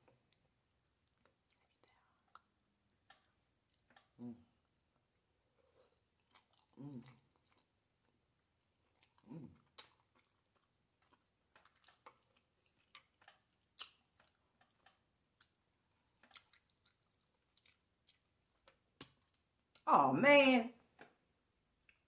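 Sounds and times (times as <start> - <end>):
chewing and lip smacking: 0.1 - 5.1, 5.7 - 8.2, 8.8 - 19.8.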